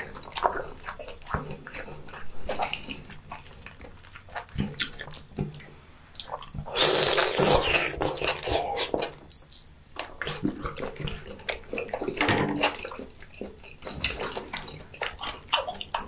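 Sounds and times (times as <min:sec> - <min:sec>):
wet slurp and chew: 0:00.0 - 0:16.0.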